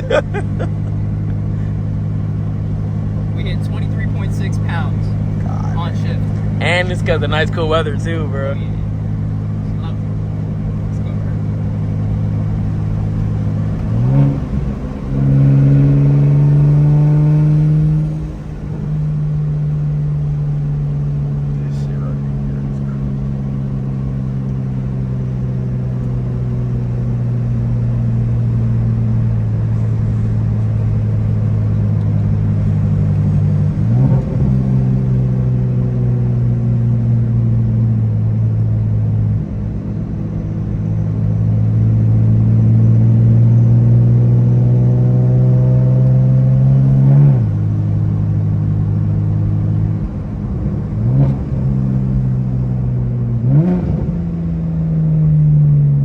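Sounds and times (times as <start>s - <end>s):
car engine drone while driving: 0.0s - 56.0s.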